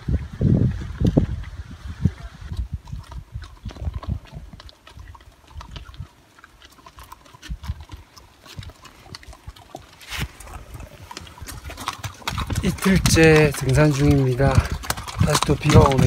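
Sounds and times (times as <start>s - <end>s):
wind rumble on microphone: 0.0s - 6.2s, 7.4s - 9.2s, 10.1s - 16.0s
hooves clip-clopping on rocky trail: 0.1s - 16.0s.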